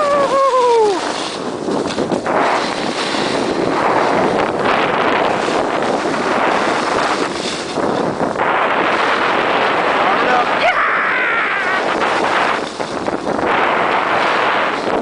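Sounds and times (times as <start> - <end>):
snowboard sliding over snow: 0.0 - 15.0
wind buffeting microphone: 0.0 - 15.0.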